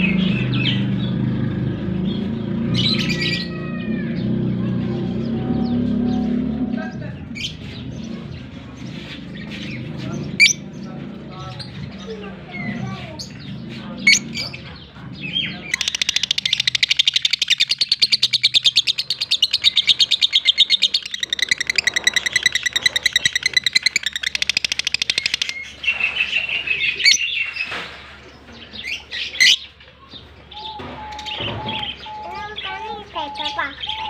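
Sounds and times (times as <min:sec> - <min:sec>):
lovebirds chirping: 0:05.1 - 0:34.0.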